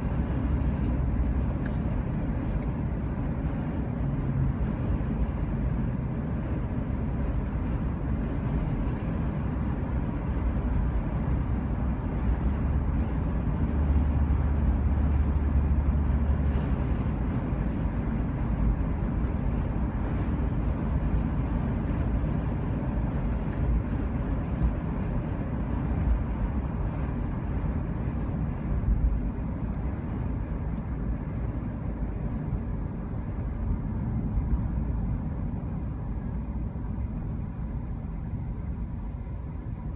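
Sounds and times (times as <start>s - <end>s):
vehicle rumbling on the move: 0.0s - 39.9s.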